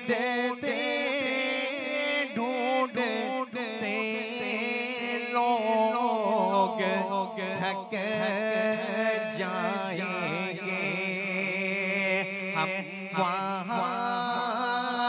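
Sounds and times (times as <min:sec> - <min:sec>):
man singing wordless line: 0:00.0 - 0:15.0.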